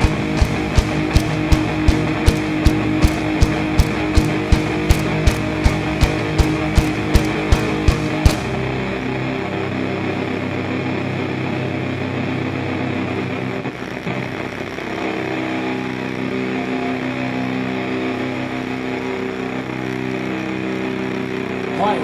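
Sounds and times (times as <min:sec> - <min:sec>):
distorted instrument droning: 0:00.0 - 0:22.0.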